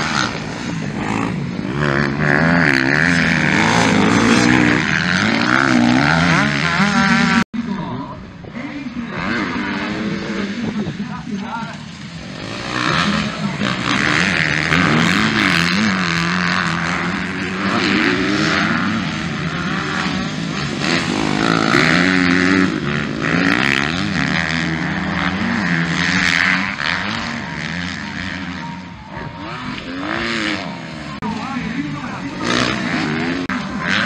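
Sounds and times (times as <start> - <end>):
motocross bikes revving: 0.0 - 34.0.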